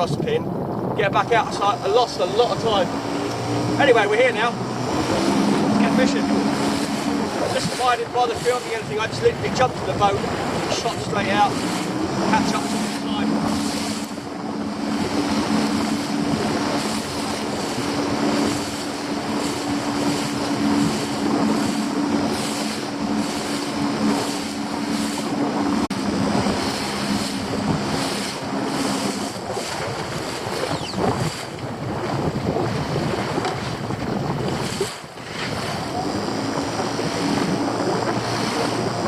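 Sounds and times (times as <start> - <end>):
outboard motor humming: 0.0 - 39.0
sea wash: 0.0 - 39.0
wind buffeting microphone: 0.0 - 39.0.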